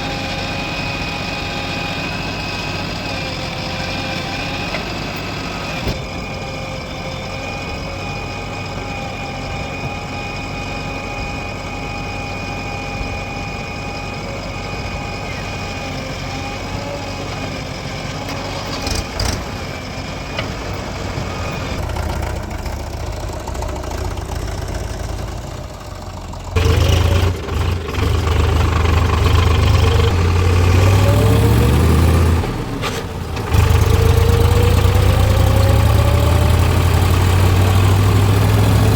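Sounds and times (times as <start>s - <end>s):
diesel engines idling: 0.0s - 38.9s
engine revving under load: 0.0s - 38.9s.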